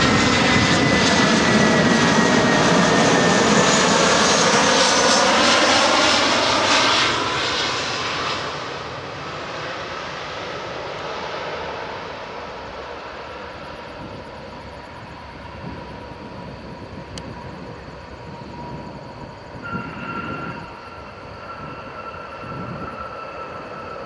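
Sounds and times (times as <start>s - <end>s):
jet engine whine: 0.0s - 24.0s.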